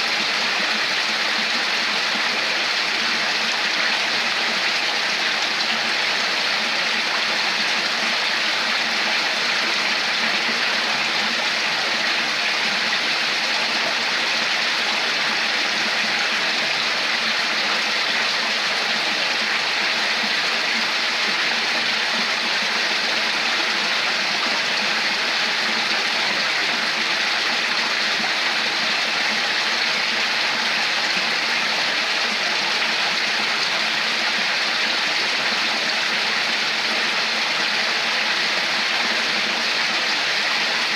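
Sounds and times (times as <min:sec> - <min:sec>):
water flowing in a stream: 0:00.0 - 0:40.9.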